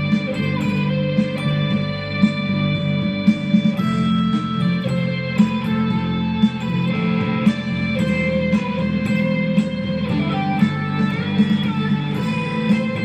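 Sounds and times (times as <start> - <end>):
electric guitar lead line: 0.0 - 13.0.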